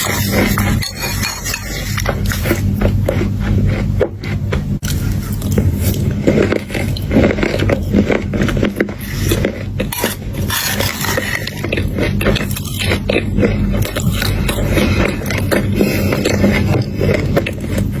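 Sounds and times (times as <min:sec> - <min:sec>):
chocolate crunching while chewing: 0:00.0 - 0:18.0
steady low hum: 0:00.0 - 0:18.0.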